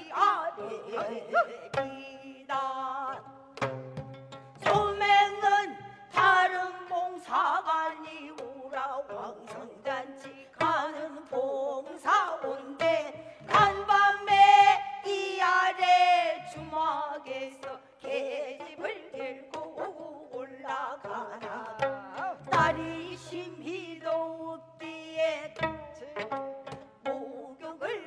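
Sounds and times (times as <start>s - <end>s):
woman singing with vibrato: 0.0s - 3.5s, 4.6s - 26.2s, 27.1s - 28.0s
plucked zither strings: 3.1s - 28.0s.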